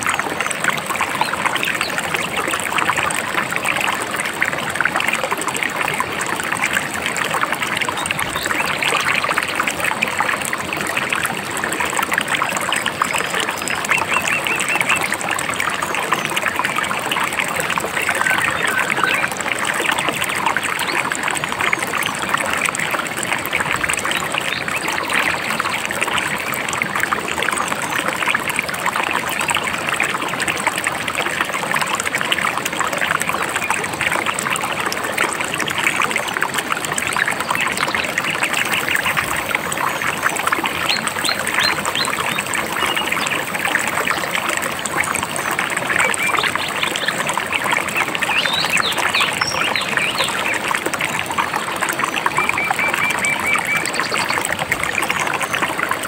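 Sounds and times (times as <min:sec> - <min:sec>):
river flowing: 0:00.0 - 0:21.6, 0:30.4 - 0:53.8.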